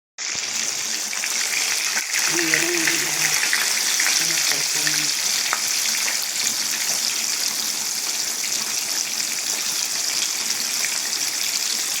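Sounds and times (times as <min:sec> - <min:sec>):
hot oil sizzling in a frying pan: 0:00.2 - 0:12.0.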